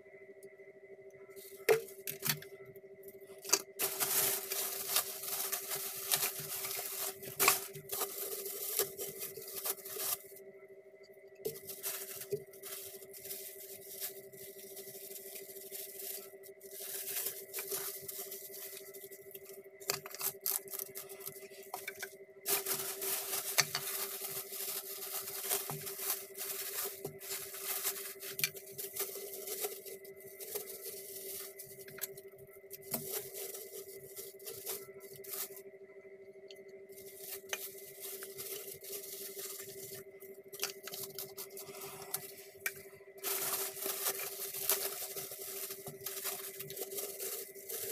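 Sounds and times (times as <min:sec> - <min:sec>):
steady hum: 0:00.0 - 0:47.9
plastic wrapping crinkling: 0:01.4 - 0:02.4, 0:03.3 - 0:10.4, 0:11.4 - 0:35.6, 0:37.0 - 0:47.9.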